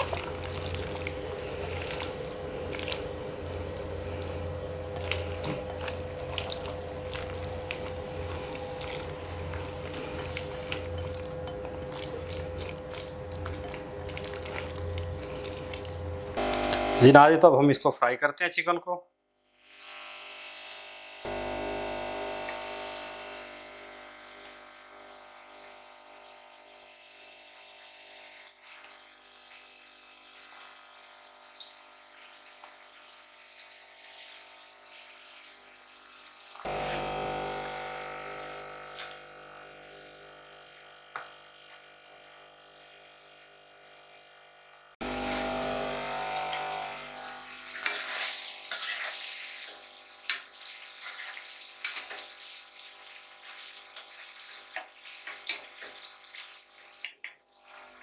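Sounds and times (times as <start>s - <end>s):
chicken sizzling in oil: 0.0s - 17.0s, 21.3s - 58.0s.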